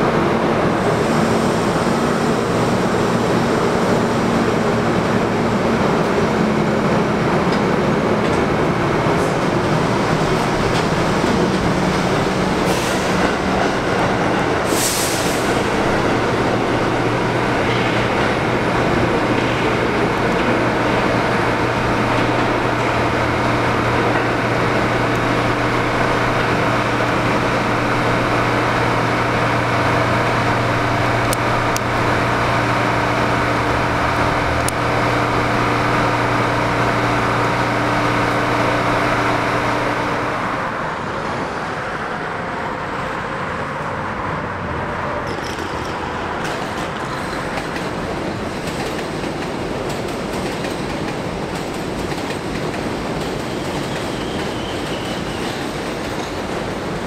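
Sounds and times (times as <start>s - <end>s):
road traffic noise: 0.0s - 57.0s
subway train rumbling: 0.0s - 57.0s.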